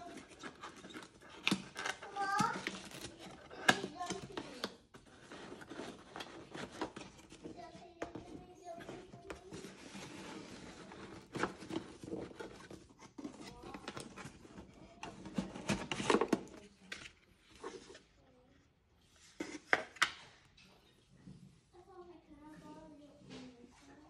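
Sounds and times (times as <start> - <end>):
cardboard and tissue paper rustling: 0.0 - 19.8.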